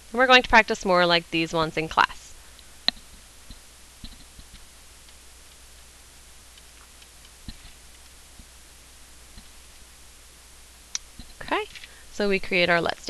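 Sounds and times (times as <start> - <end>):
recording hiss and hum: 0.0 - 13.0.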